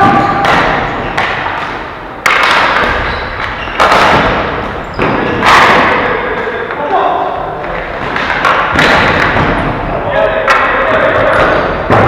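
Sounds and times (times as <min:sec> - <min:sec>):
sharp knocks echoing in a hall: 0:00.0 - 0:12.0.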